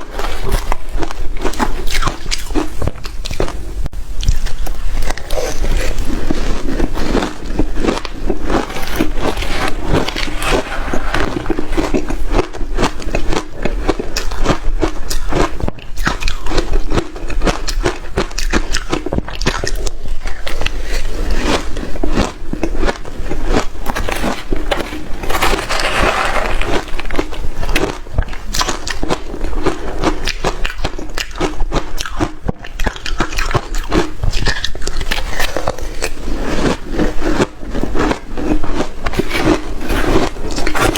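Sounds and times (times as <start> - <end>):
crunching ice: 5.0 - 40.9.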